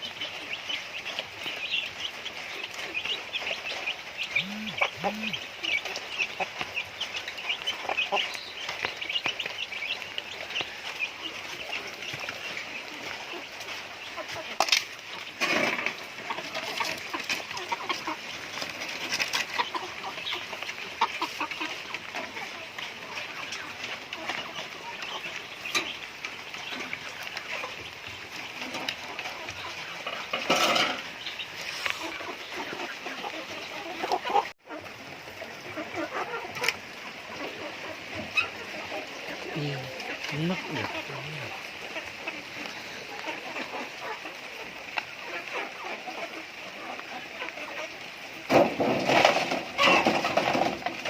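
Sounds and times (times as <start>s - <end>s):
rain hissing: 0.0s - 34.2s, 34.8s - 49.9s
chickens chirping: 0.0s - 51.0s.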